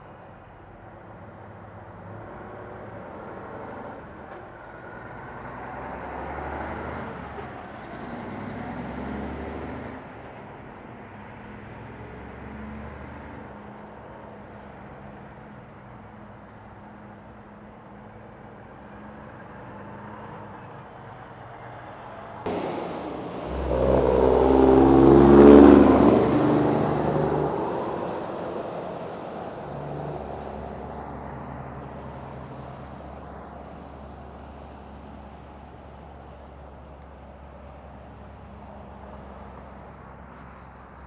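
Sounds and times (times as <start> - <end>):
truck diesel engines humming: 0.0 - 41.0
truck pulling away: 0.5 - 36.4.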